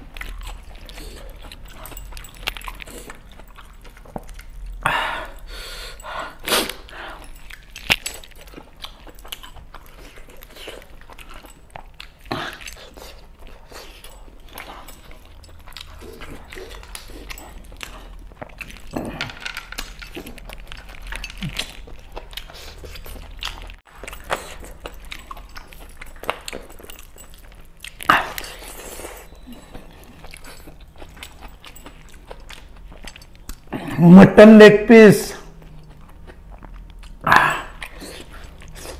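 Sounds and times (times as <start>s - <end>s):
wet chewing: 0.0s - 34.1s, 35.4s - 38.9s.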